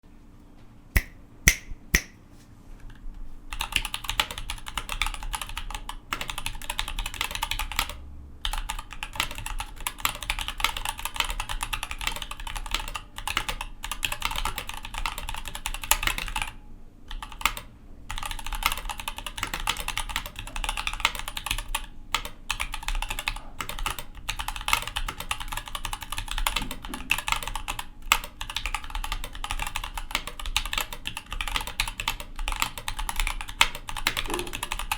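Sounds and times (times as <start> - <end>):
mechanical keyboard typing: 3.5 - 34.9.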